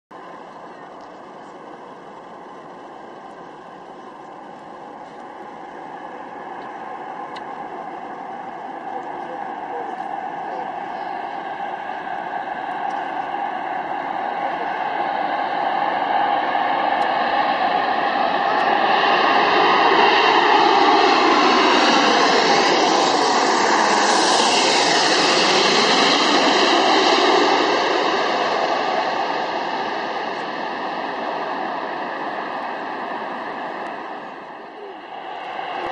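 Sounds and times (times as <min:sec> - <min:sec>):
airliner jet engines rushing: 0:00.2 - 0:35.9.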